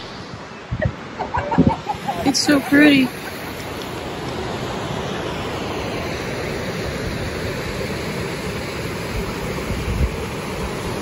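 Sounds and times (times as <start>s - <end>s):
creek water rushing over stones: 2.0s - 11.0s.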